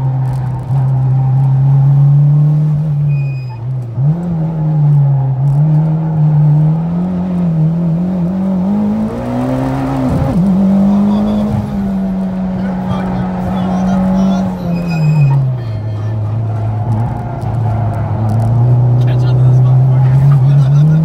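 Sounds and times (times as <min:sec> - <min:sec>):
car engine under hard acceleration: 0:00.0 - 0:21.0.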